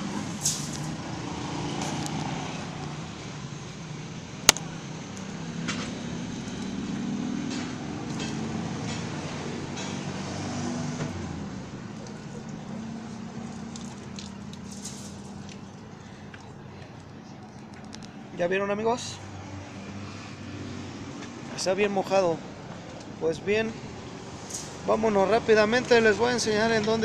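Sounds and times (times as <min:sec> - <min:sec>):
vehicle traffic hum: 0:00.0 - 0:27.0.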